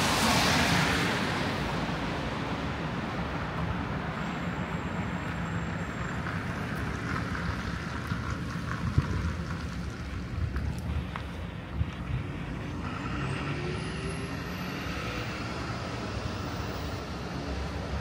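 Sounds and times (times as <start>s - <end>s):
low rumble of traffic: 0.0s - 18.0s.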